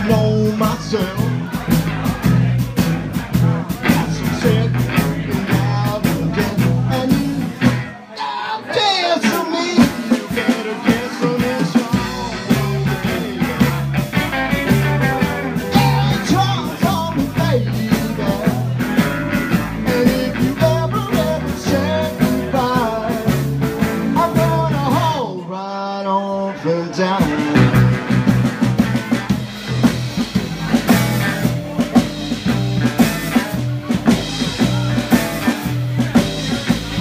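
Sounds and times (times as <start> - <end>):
drum beat: 0.0 - 7.9, 9.2 - 25.2, 27.2 - 37.0
electric guitar: 0.0 - 8.0, 8.7 - 25.4, 26.2 - 37.0
bass line: 0.0 - 8.1, 8.7 - 25.4, 26.4 - 37.0.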